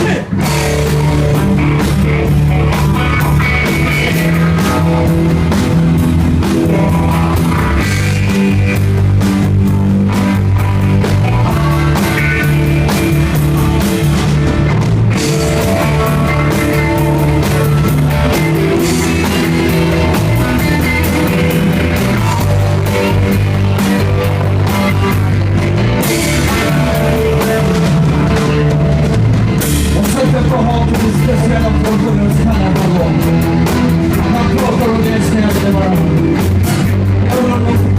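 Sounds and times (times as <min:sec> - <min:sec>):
bass line: 0:00.0 - 0:37.9
drum kit steady beat: 0:00.0 - 0:37.9
electric guitar: 0:00.0 - 0:37.9.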